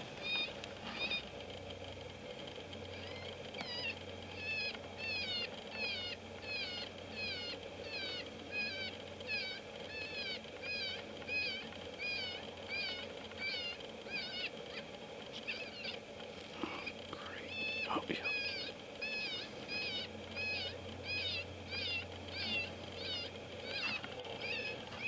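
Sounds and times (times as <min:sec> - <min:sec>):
electronic animal distress call: 0:03.0 - 0:16.0, 0:17.5 - 0:25.0.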